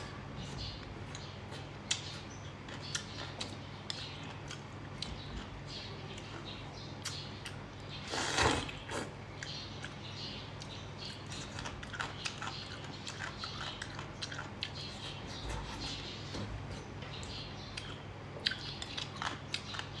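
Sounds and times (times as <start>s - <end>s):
chewing with wet mouth clicks: 1.0s - 8.0s, 8.7s - 15.3s, 17.2s - 20.0s.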